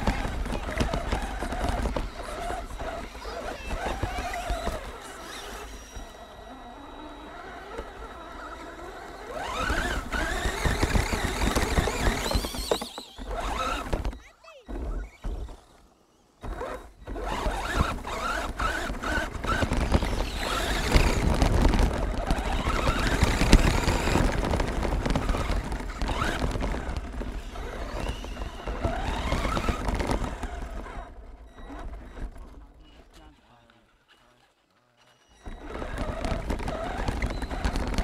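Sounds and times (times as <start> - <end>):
toy truck motor whining: 0.0 - 38.0
tyres rattling on gravel: 0.0 - 38.0.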